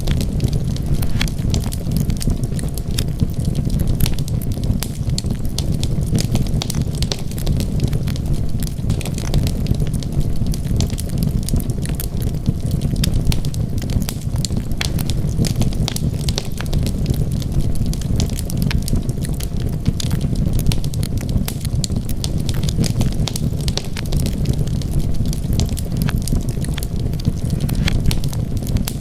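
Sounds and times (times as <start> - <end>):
flames rumbling: 0.0 - 29.0
wood fire crackling: 0.0 - 29.0.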